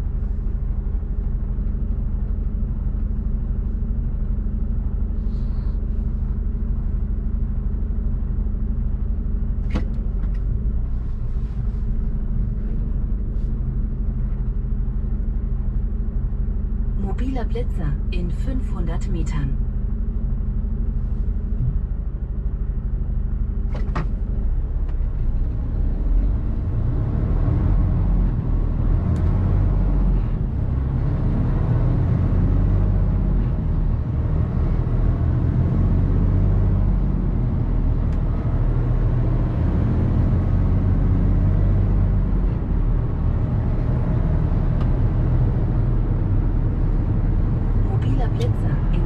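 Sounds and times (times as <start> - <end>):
road noise: 0.0 - 7.8, 8.9 - 49.0
truck diesel engine: 0.0 - 49.0.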